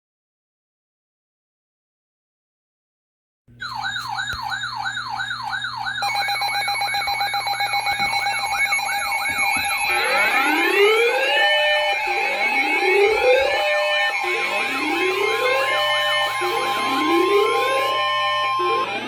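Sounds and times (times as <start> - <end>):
electronic siren: 3.6 - 19.0
steady tone: 3.6 - 19.0.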